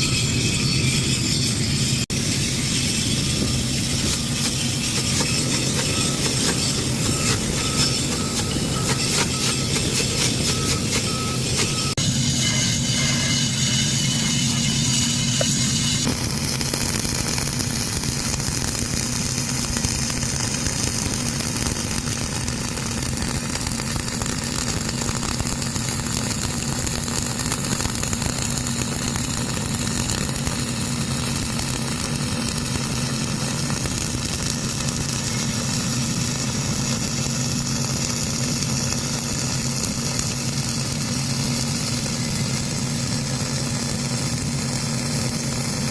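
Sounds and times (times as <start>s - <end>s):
welding arc hiss: 0.0s - 45.9s.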